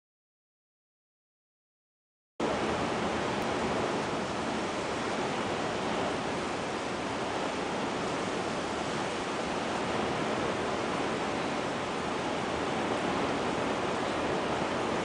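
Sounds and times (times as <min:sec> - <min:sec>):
heavy rain on lake: 0:02.4 - 0:15.0.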